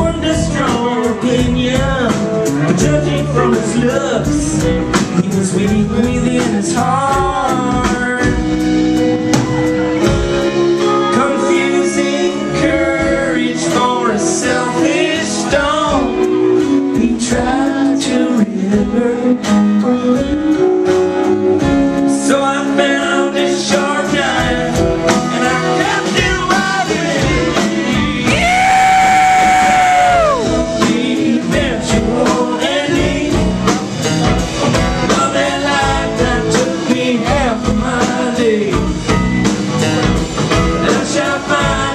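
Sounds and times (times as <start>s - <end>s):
male lead vocals: 0.0s - 9.3s, 10.0s - 20.8s, 21.6s - 41.9s
steady drum beat: 0.0s - 19.1s, 23.0s - 41.9s
electric guitars: 0.0s - 41.9s.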